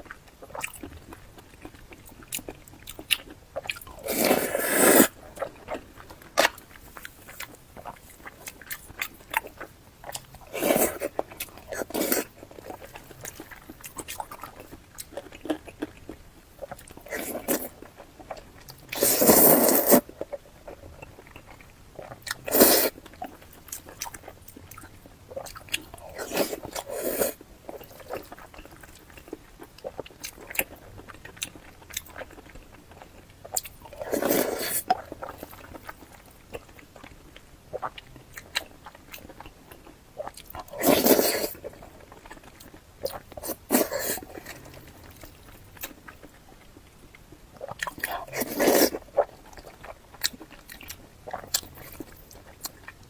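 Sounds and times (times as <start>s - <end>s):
chewing and wet mouth sounds: 0.0s - 53.0s.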